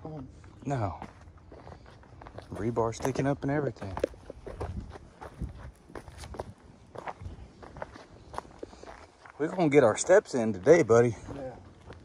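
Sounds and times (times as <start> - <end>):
footsteps on a trail: 0.1 - 12.0.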